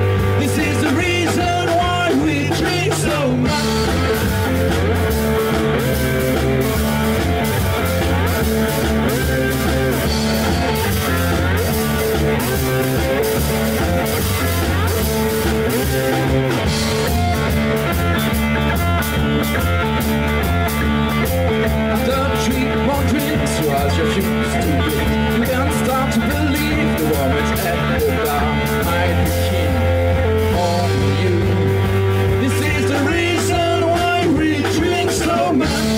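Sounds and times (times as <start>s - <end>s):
drum kit with cymbals: 0.0s - 35.9s
electric bass: 0.0s - 35.9s
lap steel guitar: 0.0s - 35.9s.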